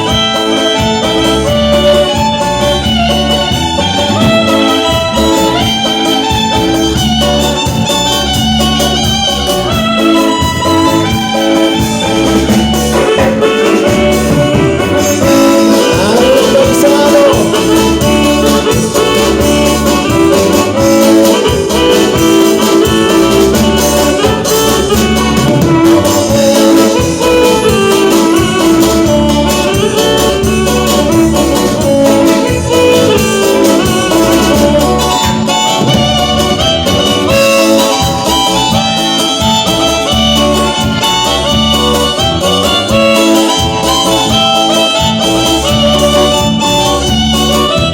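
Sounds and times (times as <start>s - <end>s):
repeating bass beat: 0.0s - 41.9s
band music with brass melody: 0.0s - 47.9s.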